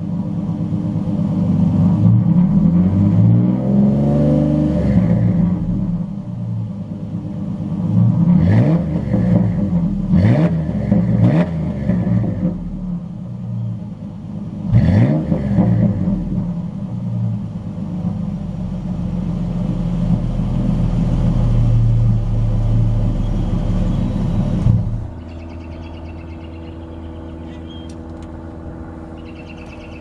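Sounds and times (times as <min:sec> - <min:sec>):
truck engine revving and rumbling: 0:00.0 - 0:30.0.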